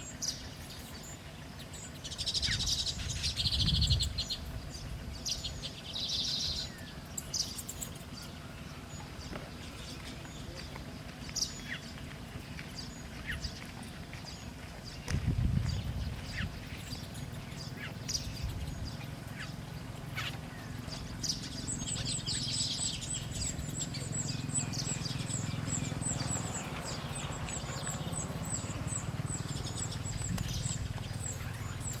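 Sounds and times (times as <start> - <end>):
low steady rumble: 0.0 - 32.0
small birds chirping: 0.0 - 32.0.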